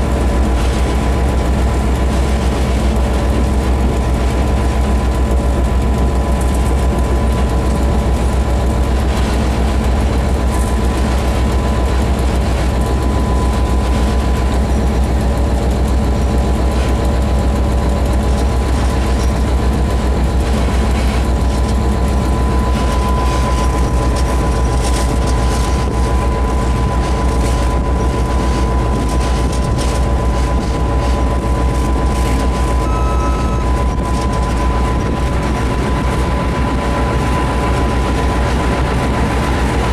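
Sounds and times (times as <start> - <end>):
diesel locomotive engine rumbling: 0.0 - 39.9
thin steady whine: 0.0 - 39.9.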